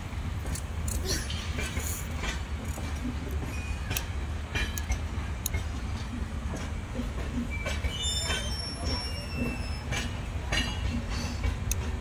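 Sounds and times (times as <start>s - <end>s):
train wheel clacks: 0.0s - 12.0s
train wheels rumbling on rails: 0.0s - 12.0s.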